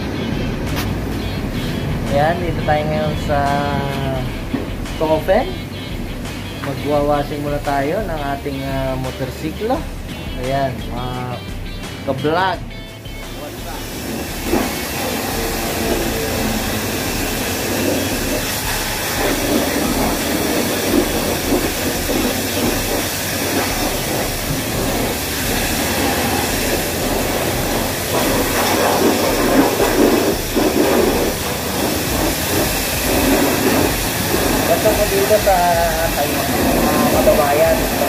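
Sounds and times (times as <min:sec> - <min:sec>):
pressure washer spraying water: 0:00.0 - 0:38.0.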